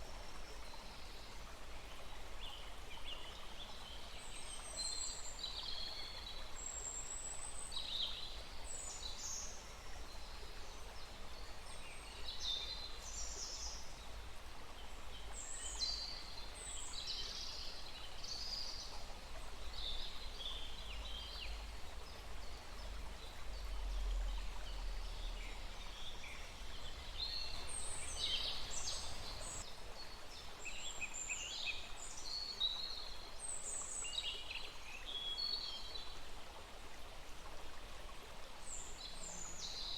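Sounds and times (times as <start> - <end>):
small stream rushing: 0.0 - 39.9.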